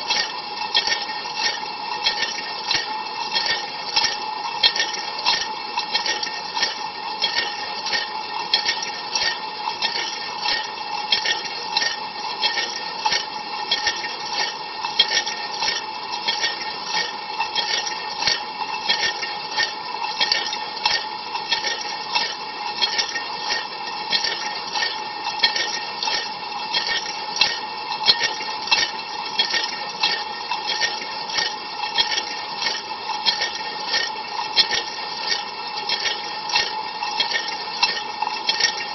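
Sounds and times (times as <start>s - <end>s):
water spraying inside dishwasher: 0.0s - 38.9s.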